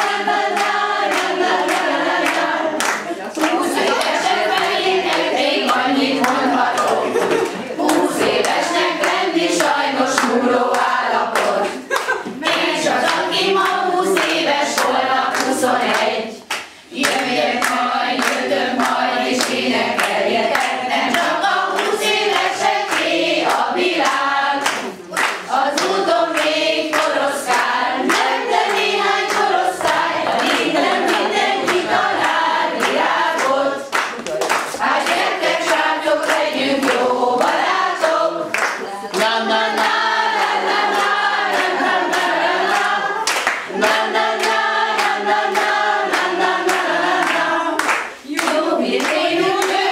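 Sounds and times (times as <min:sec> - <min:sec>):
women singing in unison: 0:00.0 - 0:34.0, 0:34.8 - 0:49.9
hands clapping: 0:00.0 - 0:49.9.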